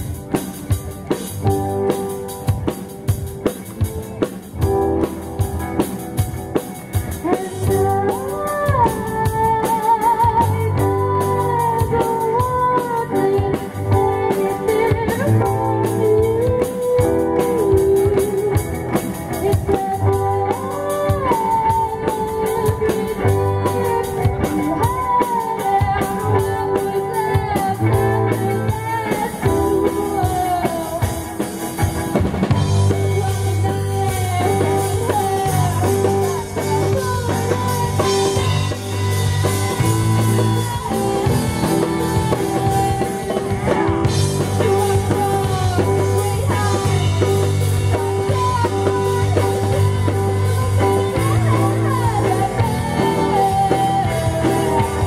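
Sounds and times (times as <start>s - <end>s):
drum kit: 0.0s - 55.0s
electric guitar: 0.0s - 55.0s
woman singing into a microphone: 6.9s - 55.0s.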